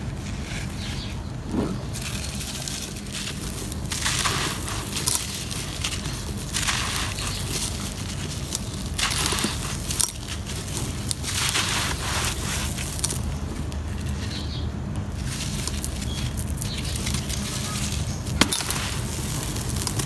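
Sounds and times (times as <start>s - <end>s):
dirt crunching in hands: 0.0s - 20.0s
grit pouring through fingers: 1.8s - 20.0s.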